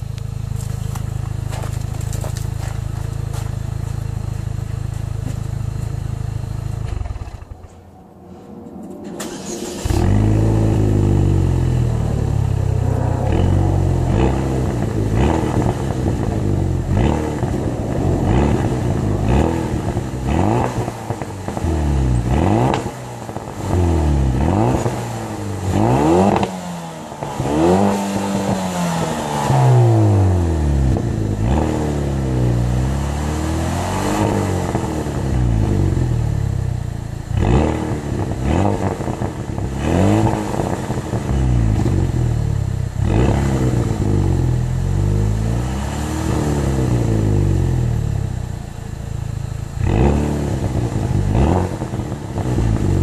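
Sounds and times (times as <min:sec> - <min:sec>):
car engine revving: 0:00.0 - 0:53.0
car engine starting: 0:00.0 - 0:53.0.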